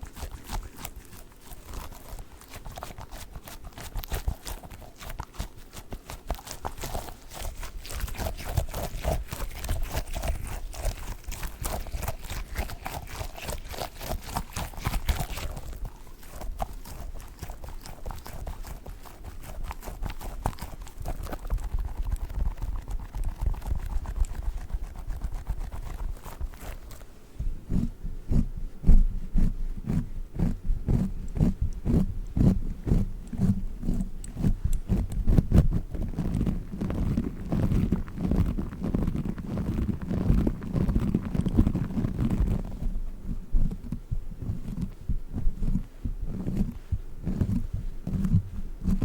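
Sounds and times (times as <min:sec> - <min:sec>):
dog toy squishing: 0:00.0 - 0:43.0.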